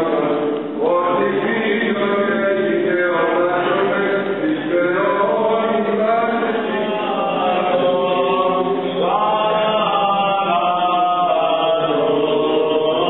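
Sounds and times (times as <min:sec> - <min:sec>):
voices chanting sustained notes: 0:00.0 - 0:13.0.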